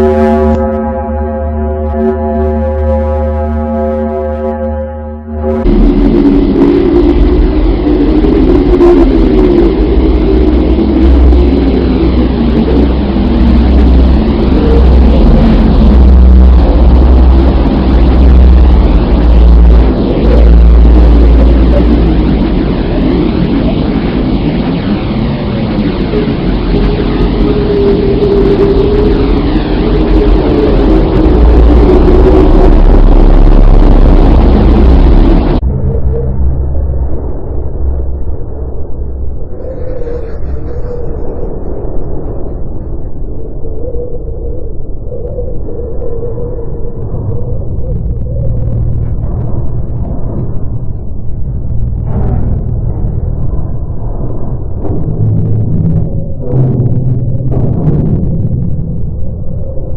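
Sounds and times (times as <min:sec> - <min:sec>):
deep rumbling drone: 0:00.0 - 0:59.9
faint steady hum: 0:00.0 - 0:59.9.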